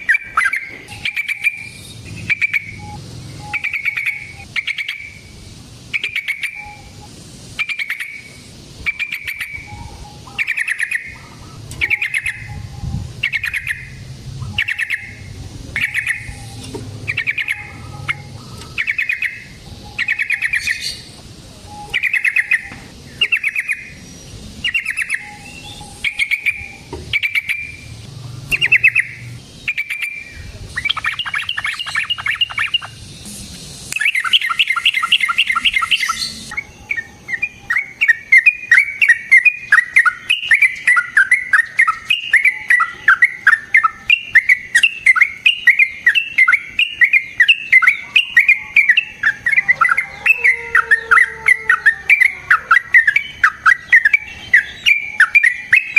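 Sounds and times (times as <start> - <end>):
bird singing bubbling phrases: 0.0 - 33.3, 34.0 - 55.9.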